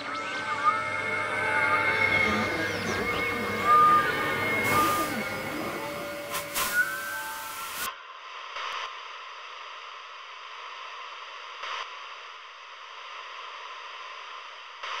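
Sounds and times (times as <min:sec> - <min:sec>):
television static hiss: 0:00.6 - 0:15.0.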